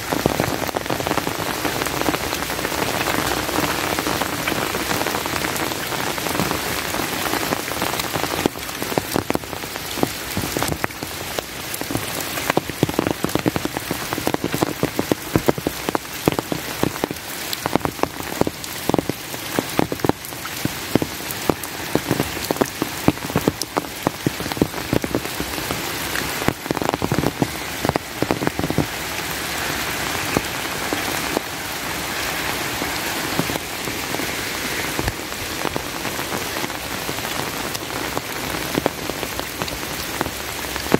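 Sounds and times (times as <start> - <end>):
raindrops hitting close by: 0.0 - 40.9
steady rain hiss: 0.0 - 40.9.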